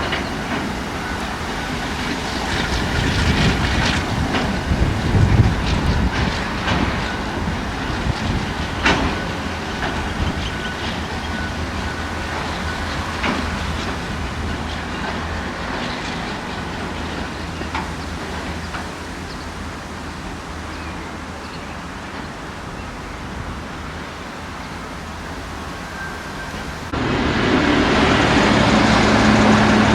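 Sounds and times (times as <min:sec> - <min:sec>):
train rolling by: 0:00.0 - 0:29.9.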